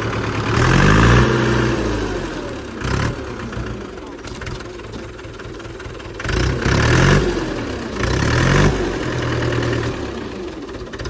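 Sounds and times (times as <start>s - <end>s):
tractor diesel engine revving: 0.0s - 11.0s.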